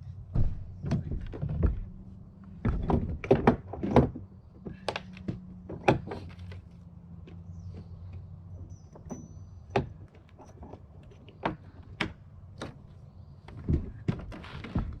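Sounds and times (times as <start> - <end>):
sharp knocks and clunks: 0.3 - 6.6, 8.9 - 15.0.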